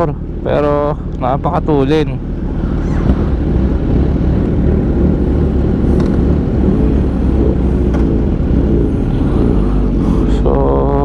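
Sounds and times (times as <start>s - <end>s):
motorcycle engine idling: 0.0s - 2.6s, 3.4s - 11.0s.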